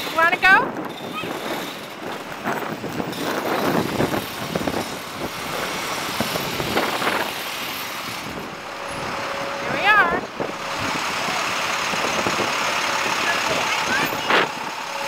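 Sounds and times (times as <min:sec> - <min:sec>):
city street traffic passing: 0:00.0 - 0:15.0.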